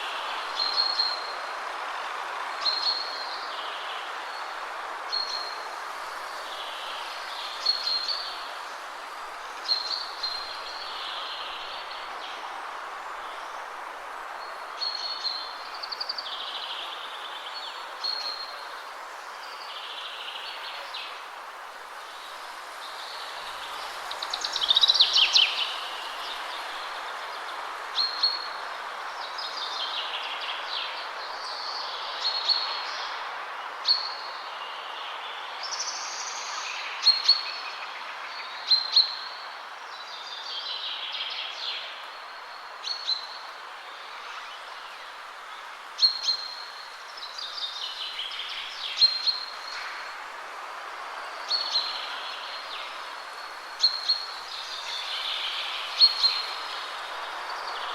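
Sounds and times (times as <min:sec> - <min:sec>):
songbirds singing: 0:00.0 - 0:57.9
wind through trees: 0:00.0 - 0:57.9.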